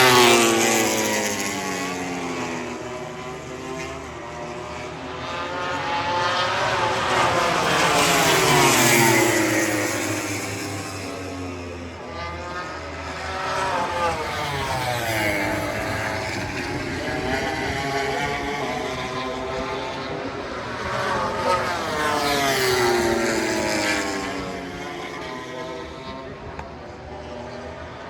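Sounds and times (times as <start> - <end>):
race bike engines passing: 0.0 - 28.0.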